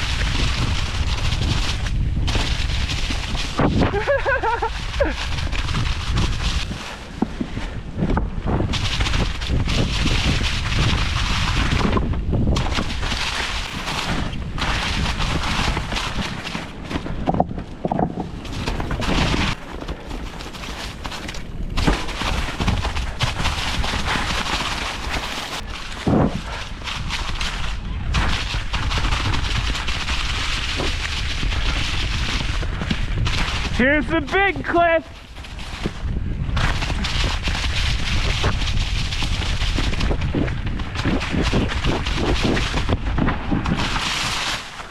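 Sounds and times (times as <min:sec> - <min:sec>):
mountain bike rattling over rocks: 0:00.0 - 0:44.9
wind buffeting microphone: 0:00.0 - 0:44.9.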